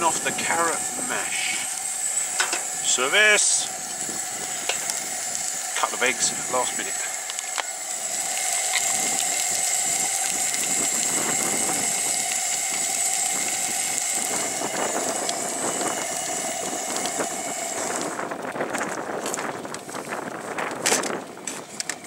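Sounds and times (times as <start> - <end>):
camp stove burner hissing: 0.0 - 22.0
sausages sizzling and crackling: 0.0 - 22.0.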